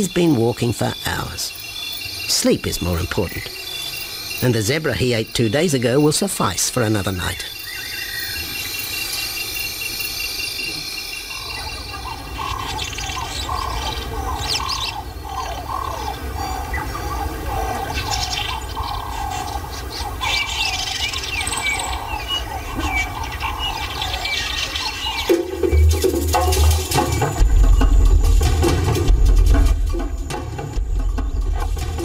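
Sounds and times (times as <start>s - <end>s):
high bird chirps: 0.0s - 28.4s
birds calling: 0.0s - 32.0s
insects trilling: 0.0s - 32.0s.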